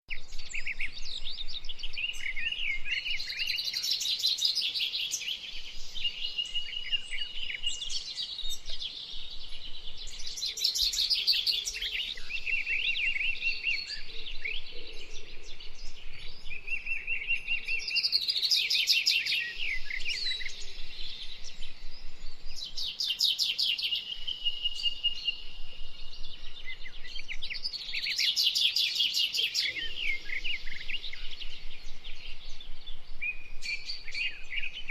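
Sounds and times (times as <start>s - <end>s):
birds chirping trills: 0.1s - 34.9s
faint steady hiss: 0.2s - 34.9s.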